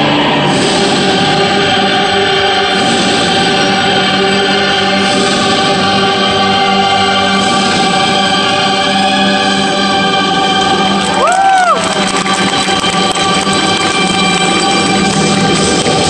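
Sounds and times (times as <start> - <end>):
choral music over loudspeakers: 0.0 - 16.0.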